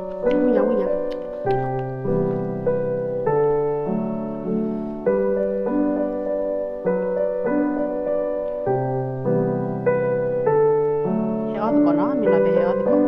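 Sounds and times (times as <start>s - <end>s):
soft piano tune: 0.0s - 13.0s.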